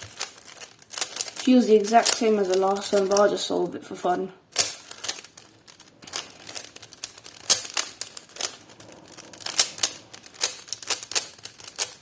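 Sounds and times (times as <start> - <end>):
puzzle cube plastic clicks: 0.0 - 3.4, 4.5 - 12.0.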